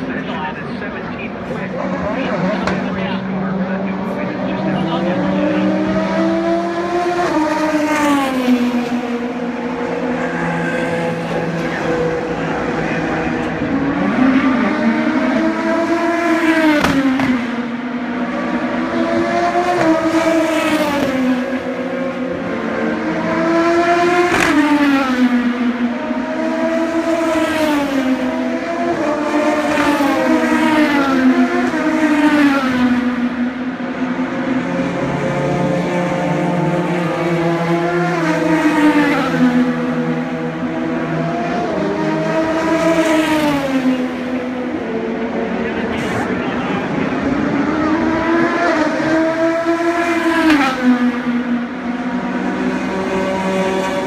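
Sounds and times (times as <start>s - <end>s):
race car engines passing by: 0.0s - 54.0s.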